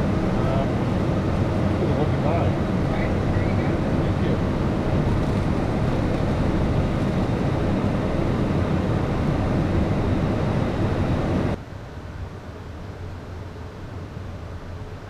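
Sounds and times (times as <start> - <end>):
cockpit airflow and engine noise: 0.0 - 15.0.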